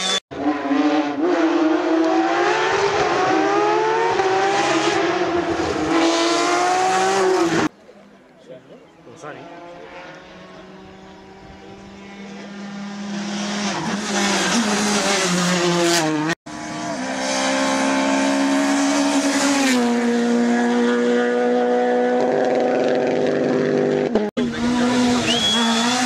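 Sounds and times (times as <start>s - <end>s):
rally car engine revving: 0.0s - 7.7s, 9.3s - 26.0s.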